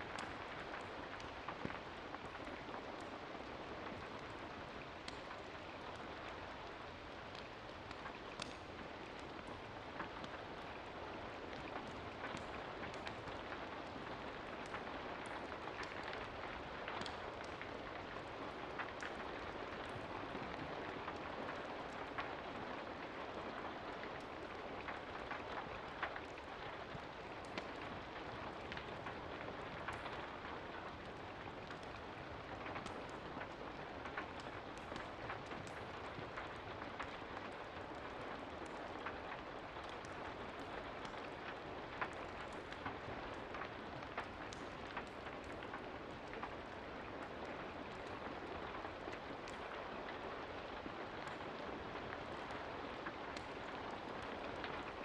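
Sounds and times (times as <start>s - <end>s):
steady rain hiss: 0.0s - 55.0s
sharp ticks and drips: 0.1s - 54.8s.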